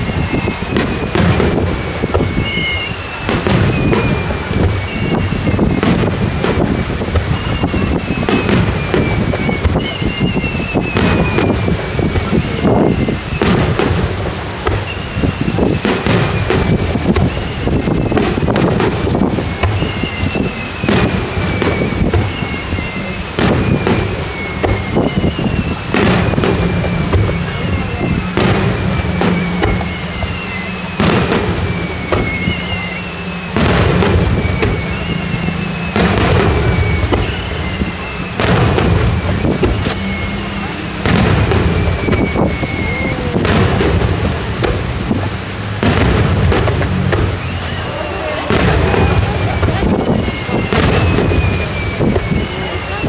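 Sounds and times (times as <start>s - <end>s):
continuous rumble: 0.0s - 53.0s
fireworks bangs and crackles: 0.0s - 53.0s
heavy firework booms: 0.0s - 53.0s
high whistle: 0.0s - 53.0s.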